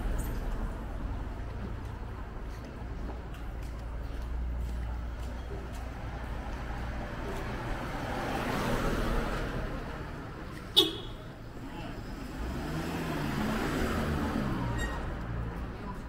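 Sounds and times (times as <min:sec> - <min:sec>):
car engine and tyres on asphalt: 0:00.0 - 0:16.0.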